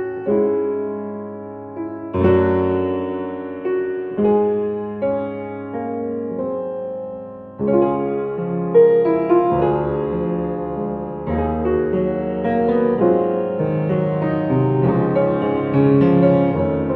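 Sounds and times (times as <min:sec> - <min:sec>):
gentle piano tune: 0:00.0 - 0:16.9.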